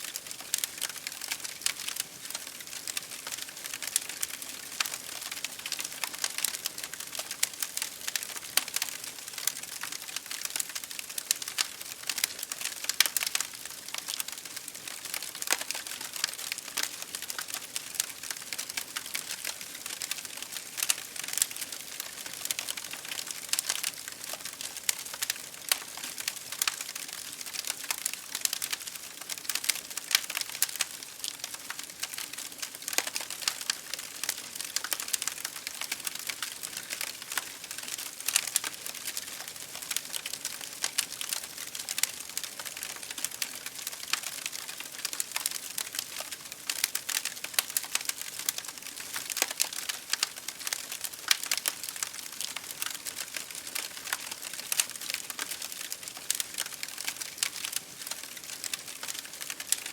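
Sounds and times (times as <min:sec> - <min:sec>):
rain hitting a window pane: 0:00.1 - 0:59.9
wood fire crackling: 0:00.1 - 0:59.9.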